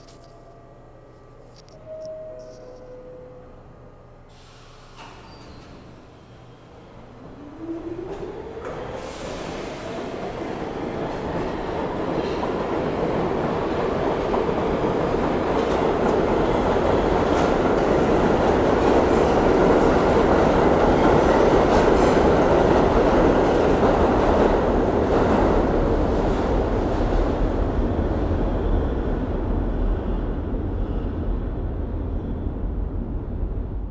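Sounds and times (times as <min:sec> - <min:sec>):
subway motor whine: 0:01.8 - 0:33.9.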